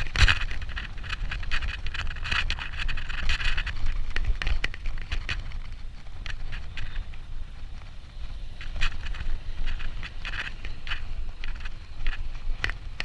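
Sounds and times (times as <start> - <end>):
bike clicks and rattles: 0.0 - 13.0
wind rushing over microphone: 0.0 - 13.0.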